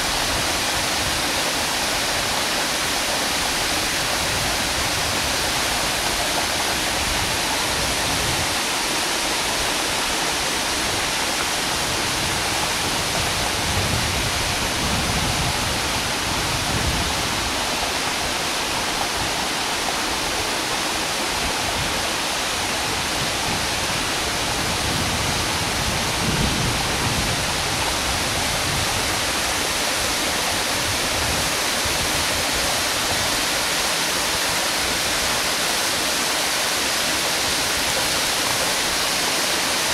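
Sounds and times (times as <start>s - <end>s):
waterfall roaring onto rocks: 0.0s - 39.9s.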